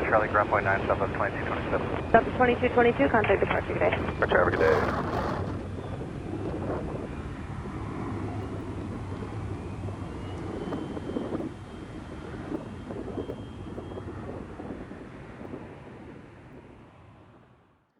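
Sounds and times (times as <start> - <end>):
faint high whine: 0.0 - 17.6
jet engine rumble: 0.0 - 17.6.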